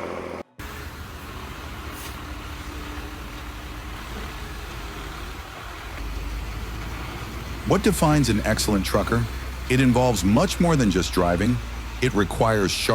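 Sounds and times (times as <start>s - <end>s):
heavy vehicle engine rumble: 0.0s - 12.9s
road noise: 0.0s - 12.9s.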